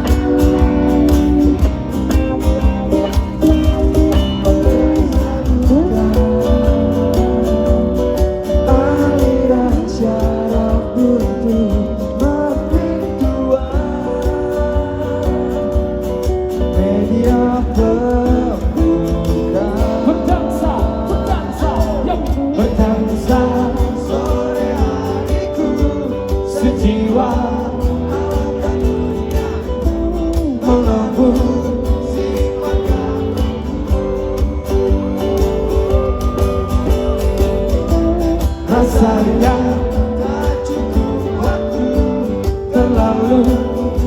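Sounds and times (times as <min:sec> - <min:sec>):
guitar: 0:00.0 - 0:44.0
person singing: 0:00.0 - 0:44.0
strong bass: 0:00.0 - 0:44.0.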